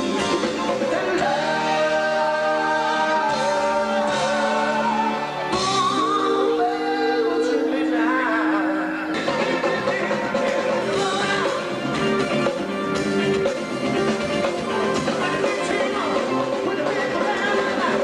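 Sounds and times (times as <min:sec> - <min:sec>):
person singing: 0:00.0 - 0:12.0, 0:14.7 - 0:18.0
live rock band playing: 0:00.0 - 0:18.0.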